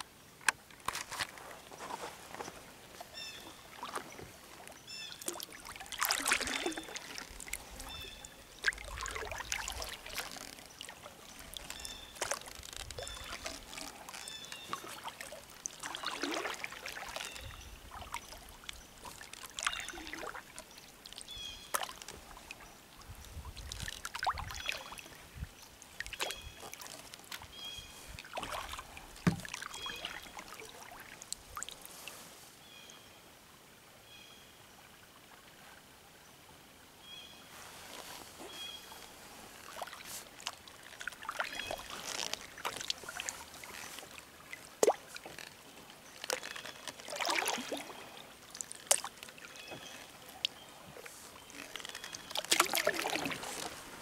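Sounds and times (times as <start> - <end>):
paddle splashing in water: 0.0 - 32.9, 37.1 - 54.0
water dripping off paddle: 3.0 - 25.2, 25.8 - 32.2, 37.9 - 53.8.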